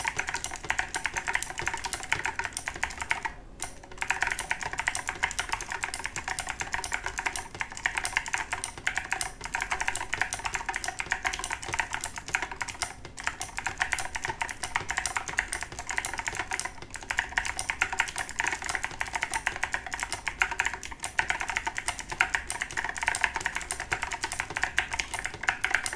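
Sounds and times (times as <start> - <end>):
fast typing on mechanical keyboard: 0.0 - 25.9.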